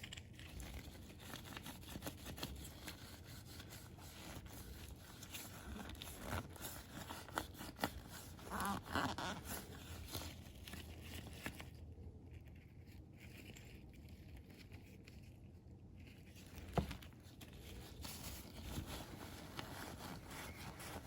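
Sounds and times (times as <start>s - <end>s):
small clicks and scrapes: 0.0s - 21.0s.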